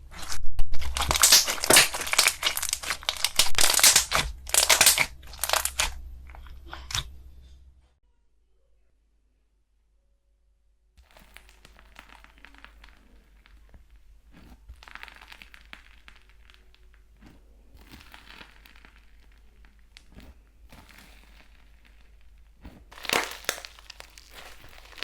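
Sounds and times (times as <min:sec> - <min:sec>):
slime crackling and popping: 0:00.0 - 0:07.1, 0:11.0 - 0:25.0.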